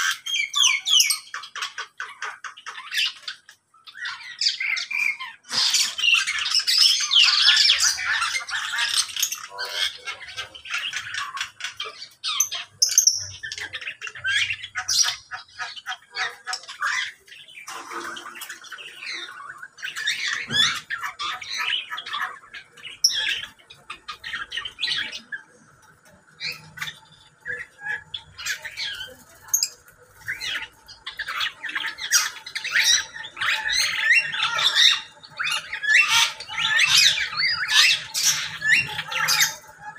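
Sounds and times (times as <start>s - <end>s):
small birds chattering and chirping: 0.0s - 39.9s.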